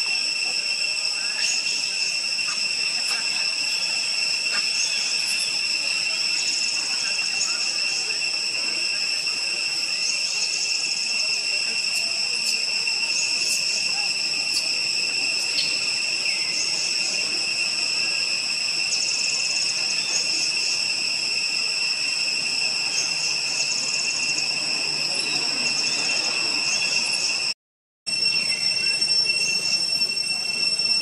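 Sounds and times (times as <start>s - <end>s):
pulsing insect buzz: 0.0s - 27.5s
insects droning high-pitched: 0.0s - 31.0s.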